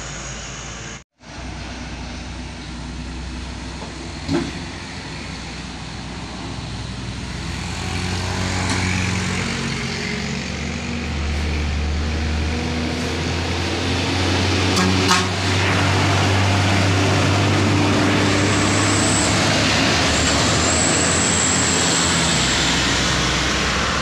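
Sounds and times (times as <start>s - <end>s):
truck engine droning: 0.0s - 24.0s.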